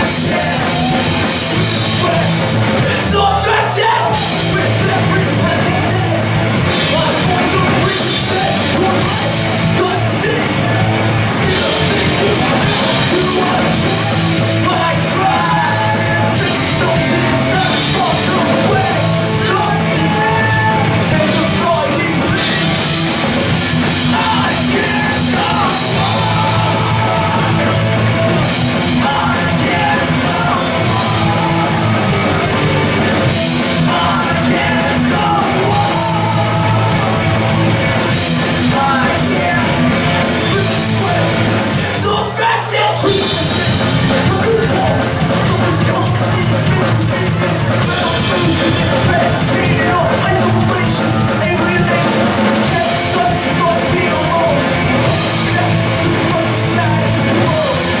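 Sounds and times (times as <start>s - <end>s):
punk band playing live: 0.0s - 58.0s
singer yelling vocals: 0.0s - 58.0s.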